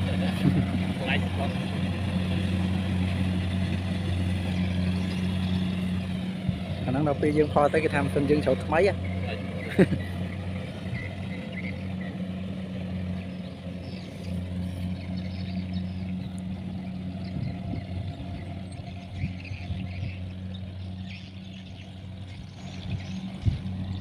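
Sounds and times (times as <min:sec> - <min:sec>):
combine harvester engine humming: 0:00.0 - 0:24.0.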